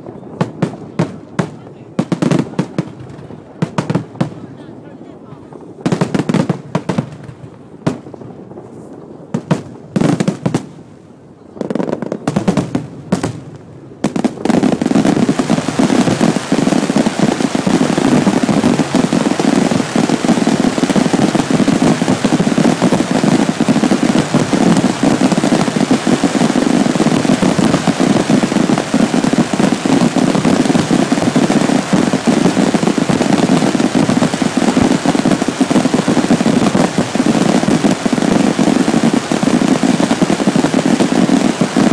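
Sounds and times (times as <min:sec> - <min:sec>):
fireworks and firecrackers exploding: 0:00.0 - 0:41.9.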